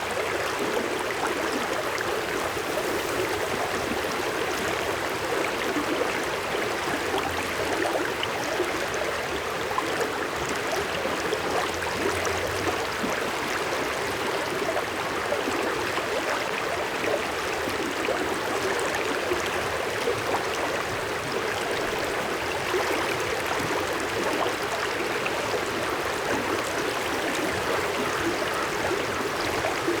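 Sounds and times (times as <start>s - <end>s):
river water flowing over rocks: 0.0s - 30.0s.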